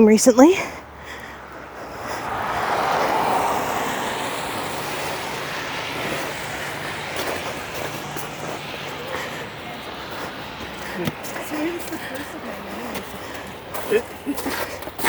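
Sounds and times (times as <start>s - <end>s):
car driving past: 0.6s - 15.0s.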